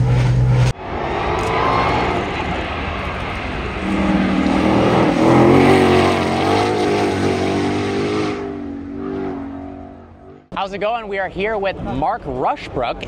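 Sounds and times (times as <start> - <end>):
car engine accelerating hard: 0.0 - 10.5.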